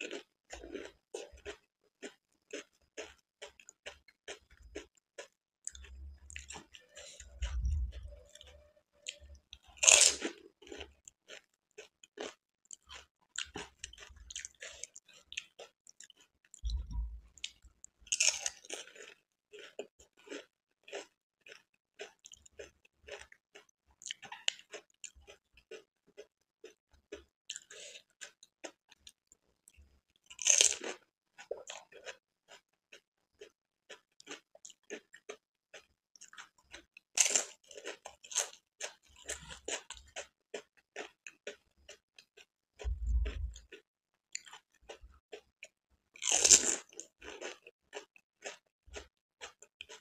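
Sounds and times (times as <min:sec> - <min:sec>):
crunchy food chewing: 0:00.0 - 0:50.0.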